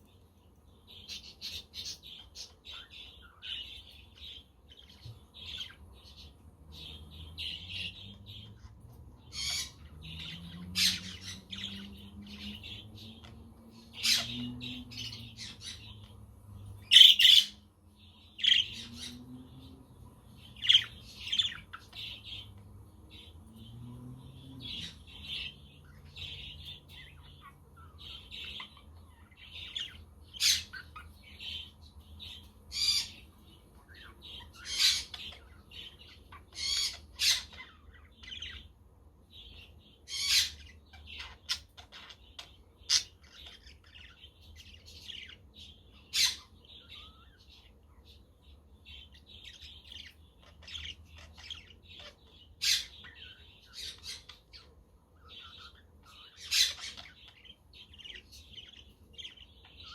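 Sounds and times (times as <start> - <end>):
budgerigars chirping: 0.8 - 17.6, 18.2 - 19.8, 20.4 - 23.7, 24.4 - 59.9.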